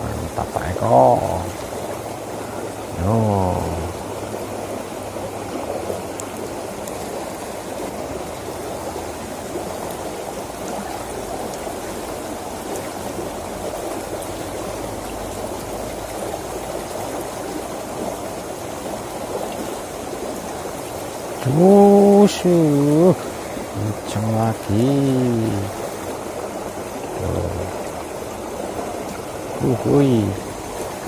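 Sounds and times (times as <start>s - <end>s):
water rushing in ditch: 0.0s - 31.0s.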